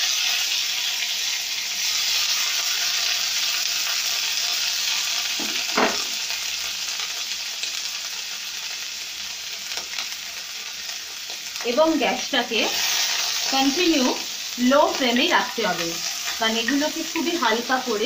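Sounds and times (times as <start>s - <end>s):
cabbage sizzling in hot fat: 0.0s - 18.0s.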